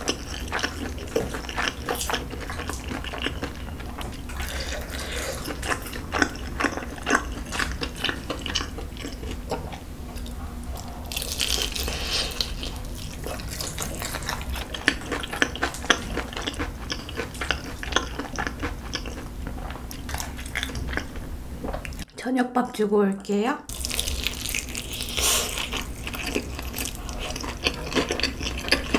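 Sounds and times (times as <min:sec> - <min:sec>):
wet chewing and smacking: 0:00.0 - 0:22.1, 0:23.7 - 0:28.9.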